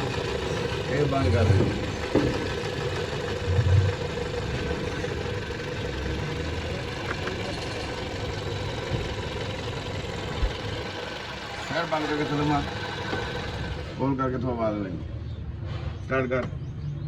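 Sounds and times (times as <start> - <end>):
car engine idling: 0.0 - 14.5.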